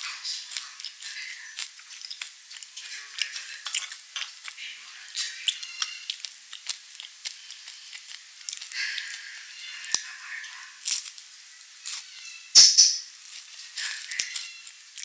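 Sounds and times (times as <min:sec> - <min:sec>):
crunchy chewing: 0:00.0 - 0:12.4, 0:13.0 - 0:15.0.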